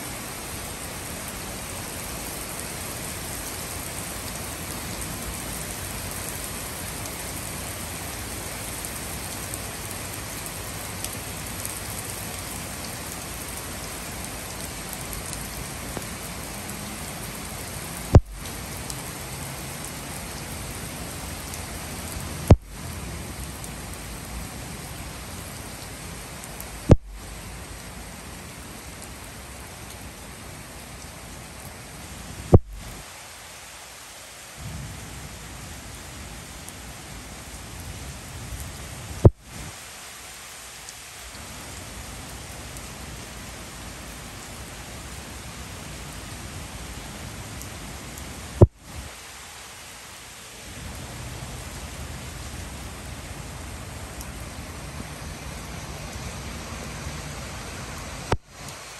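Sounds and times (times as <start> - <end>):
heavy rain on wooden deck: 0.0 - 58.9.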